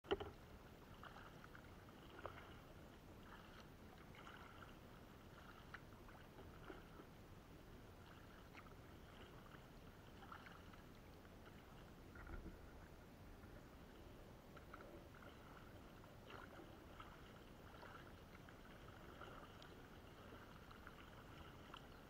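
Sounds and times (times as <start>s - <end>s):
paddle dipping in water: 0.0s - 22.0s.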